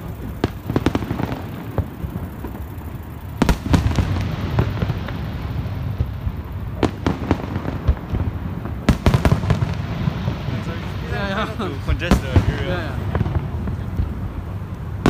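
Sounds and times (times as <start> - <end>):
fireworks bangs: 0.0 - 15.0
low rumble: 0.0 - 15.0.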